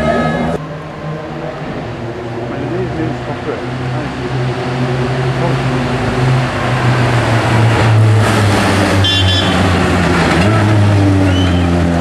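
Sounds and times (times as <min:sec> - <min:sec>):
motorcycle passing: 0:00.0 - 0:12.0
rally car engine passing: 0:00.0 - 0:12.0.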